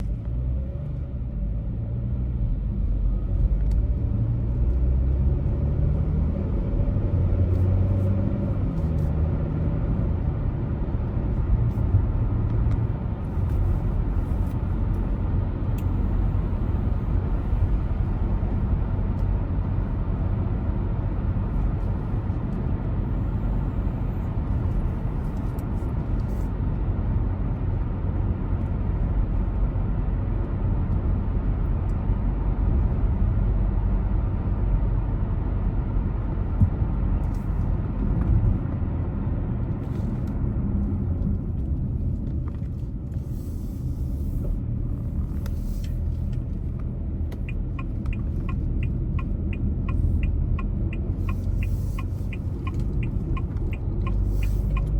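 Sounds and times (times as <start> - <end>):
car engine: 0.0 - 54.9
road rumble: 0.0 - 54.9.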